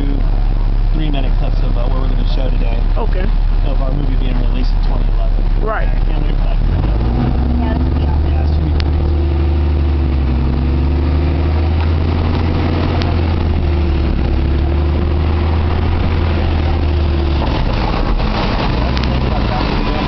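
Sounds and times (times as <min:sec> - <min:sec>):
large engine idling: 0:00.0 - 0:20.0
rough engine noise: 0:00.0 - 0:20.0.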